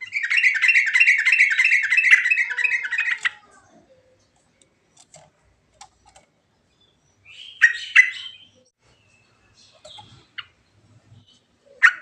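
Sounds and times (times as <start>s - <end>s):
bird singing: 0.0s - 5.2s, 5.8s - 12.0s.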